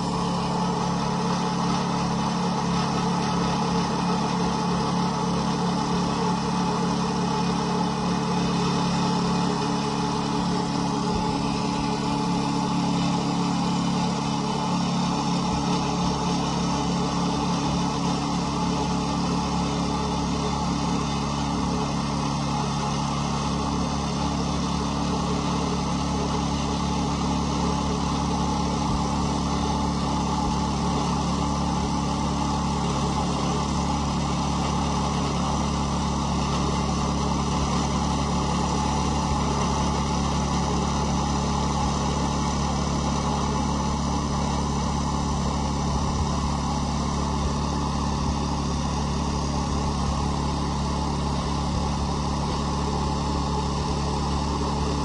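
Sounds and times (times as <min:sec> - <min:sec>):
saw blade cutting log: 0:00.0 - 0:55.0
small sawmill engine running: 0:00.0 - 0:55.0.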